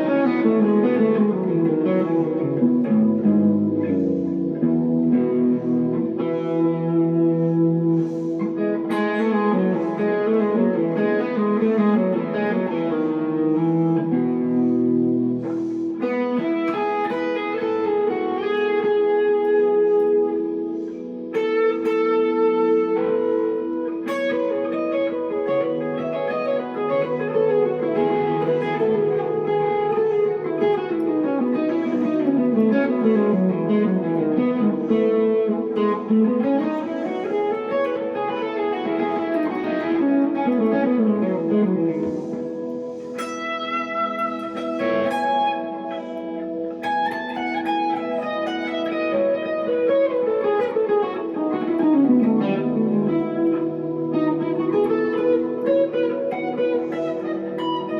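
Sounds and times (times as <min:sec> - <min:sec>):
electric guitar slow melody: 0:00.0 - 0:57.9.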